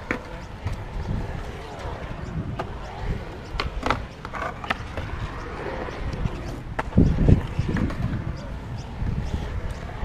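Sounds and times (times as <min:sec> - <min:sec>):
skateboard wheels rolling on concrete: 0:00.0 - 0:10.0.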